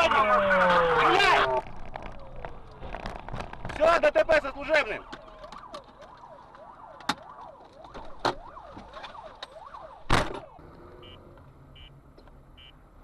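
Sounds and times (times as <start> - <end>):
emergency vehicle siren wailing: 0.0 - 11.2.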